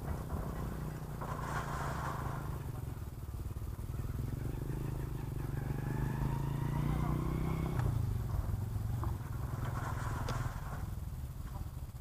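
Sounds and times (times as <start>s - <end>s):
engine with low pulsing beat: 0.0s - 12.0s.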